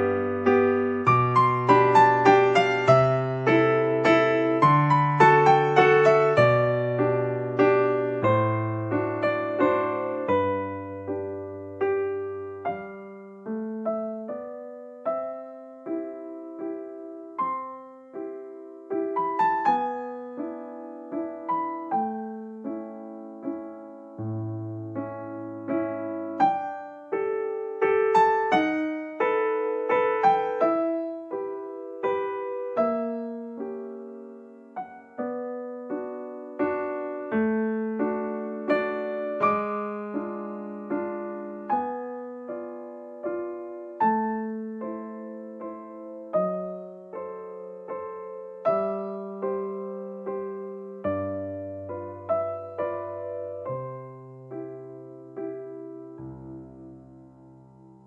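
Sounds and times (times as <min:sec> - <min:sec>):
slow gentle piano piece: 0:00.0 - 0:58.0.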